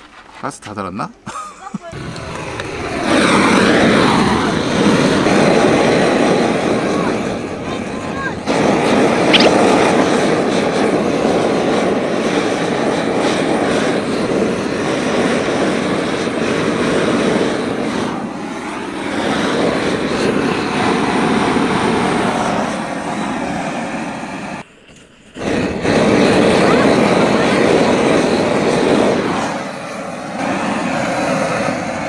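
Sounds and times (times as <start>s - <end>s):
butane torch hissing: 2.0s - 32.0s.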